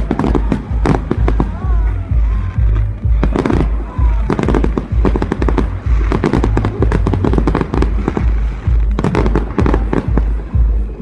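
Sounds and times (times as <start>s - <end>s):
fireworks bangs and crackles: 0.0s - 11.0s
low rumble: 0.0s - 11.0s.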